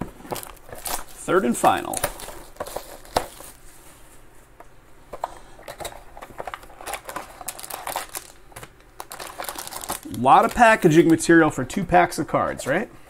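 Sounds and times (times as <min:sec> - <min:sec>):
cardboard and foil packs crinkling: 0:00.0 - 0:04.0, 0:05.2 - 0:12.9.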